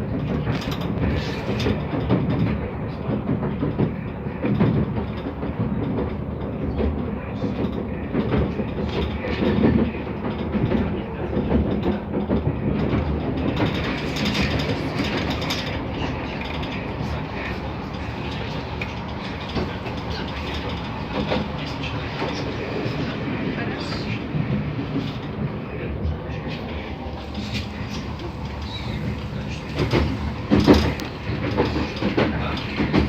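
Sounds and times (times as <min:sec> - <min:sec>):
train wheels rumbling on rails: 0:00.0 - 0:33.0
knocks and clatter: 0:00.1 - 0:33.0.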